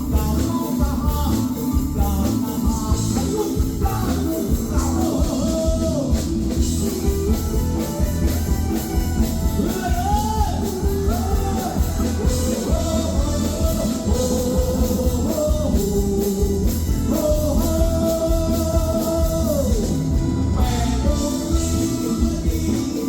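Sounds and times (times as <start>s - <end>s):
guitar bass and drums: 0.0s - 23.0s
man singing: 0.0s - 23.0s.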